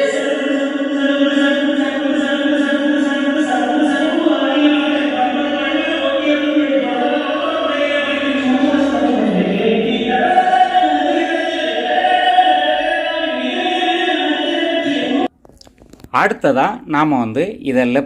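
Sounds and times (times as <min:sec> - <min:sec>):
choir singing: 0:00.0 - 0:15.3
film song over loudspeaker: 0:00.0 - 0:15.3.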